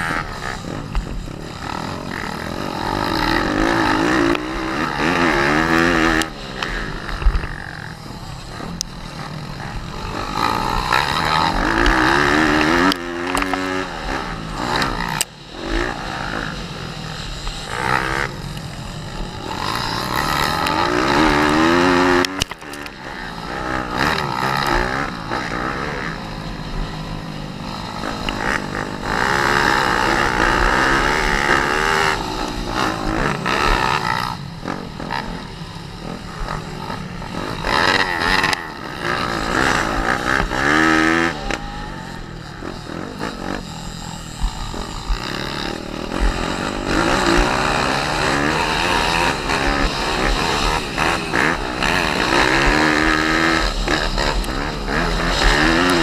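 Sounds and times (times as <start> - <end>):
small motorbike engine revving: 0.0 - 56.0.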